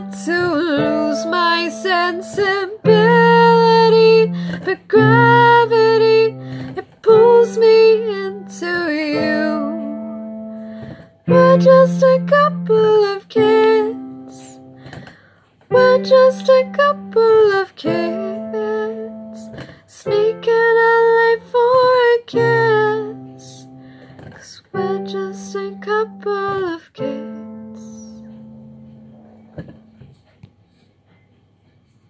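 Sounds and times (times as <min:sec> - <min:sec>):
woman singing wordless notes: 0:00.0 - 0:15.0, 0:15.7 - 0:28.8.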